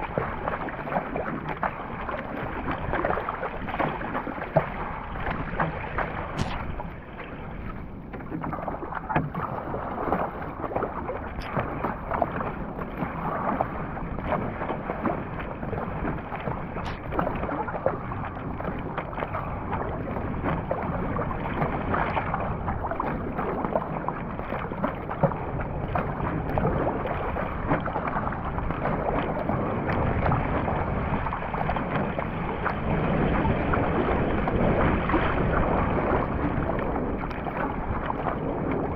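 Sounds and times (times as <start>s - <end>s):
paddle splashing in water: 0.0s - 38.9s
water rushing along hull: 0.0s - 38.9s.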